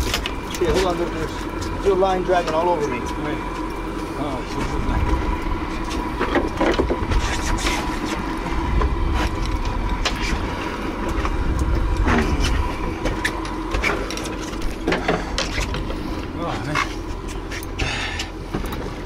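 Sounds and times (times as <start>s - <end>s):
outboard engines idling: 0.0s - 19.0s.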